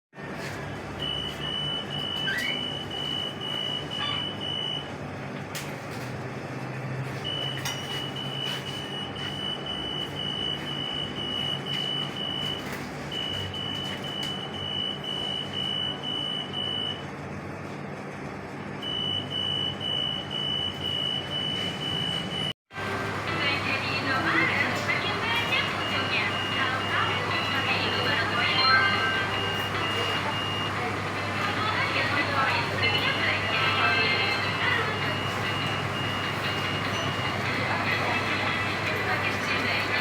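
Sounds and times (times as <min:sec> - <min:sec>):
shop and street noise: 0:00.2 - 0:40.0
anti-theft gate alarm beeping: 0:00.8 - 0:05.0, 0:07.1 - 0:17.1, 0:18.8 - 0:22.6, 0:23.4 - 0:40.0.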